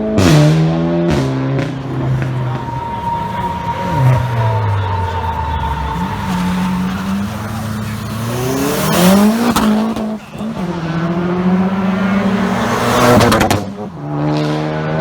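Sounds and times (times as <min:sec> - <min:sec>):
car engine revving and accelerating: 0:00.0 - 0:15.0.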